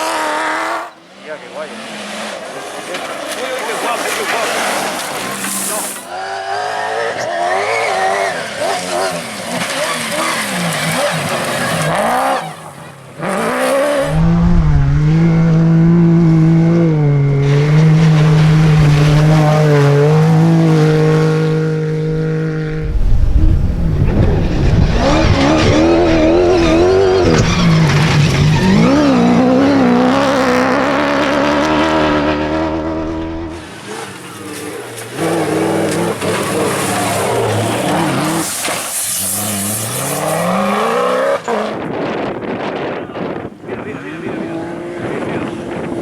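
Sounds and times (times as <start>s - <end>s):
rally vehicle engines revving: 0.0s - 46.0s.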